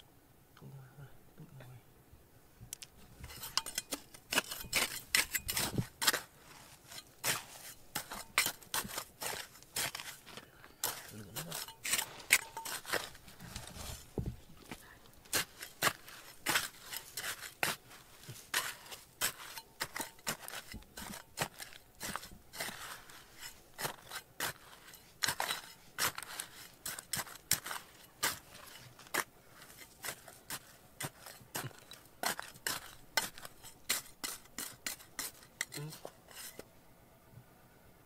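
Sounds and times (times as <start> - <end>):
sharp hard scrapes and clicks: 2.8 - 14.1, 15.3 - 36.7.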